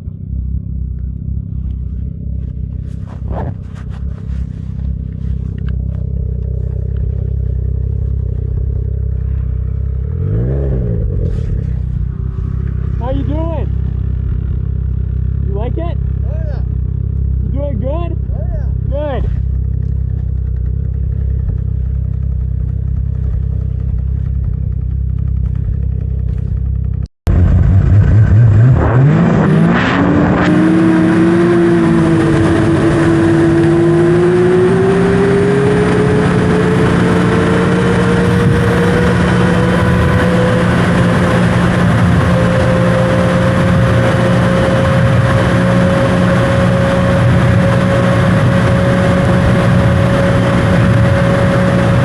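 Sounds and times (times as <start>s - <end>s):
snowmobile engine accelerating: 1.5s - 16.6s, 17.4s - 52.0s.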